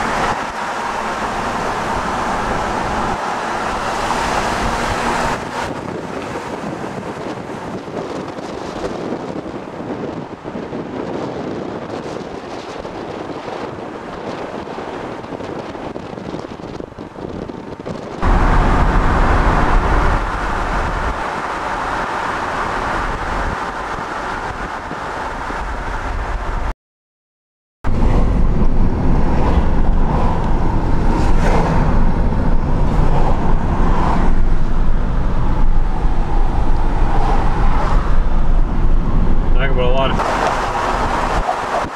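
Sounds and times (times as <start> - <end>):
car road noise: 0.0 - 26.7, 27.9 - 41.9.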